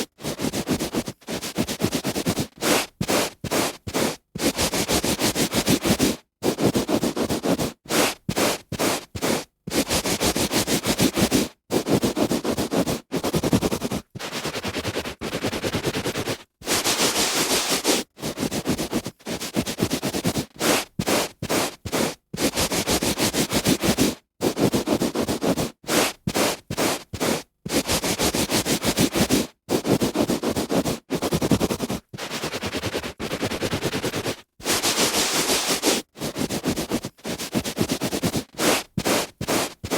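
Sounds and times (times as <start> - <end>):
hand rubbing on carpet: 0.0 - 39.9.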